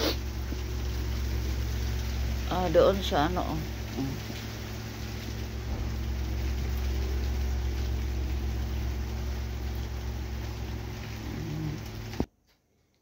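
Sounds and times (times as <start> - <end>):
steady rain falling: 0.0 - 12.3.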